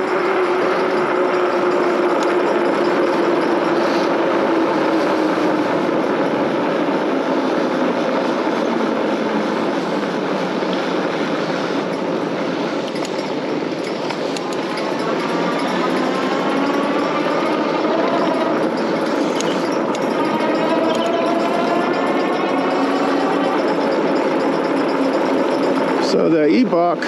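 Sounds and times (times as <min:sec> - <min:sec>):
road noise from bike: 0:00.0 - 0:27.0.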